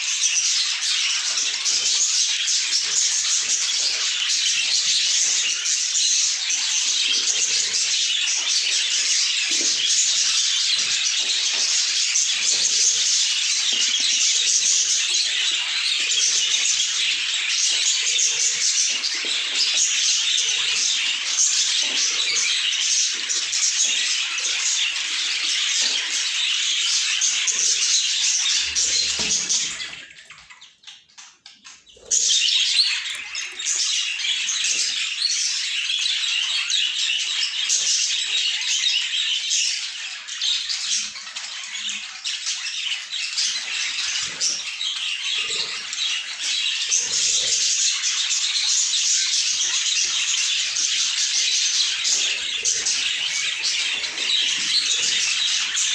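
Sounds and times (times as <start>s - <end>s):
budgerigars chattering and warbling: 0.0s - 55.9s.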